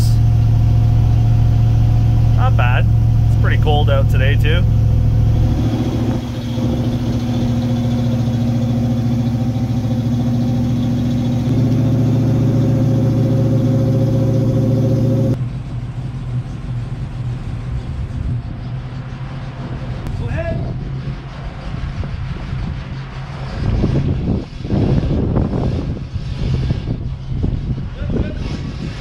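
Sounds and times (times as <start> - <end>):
car engine idling: 0.0 - 23.5.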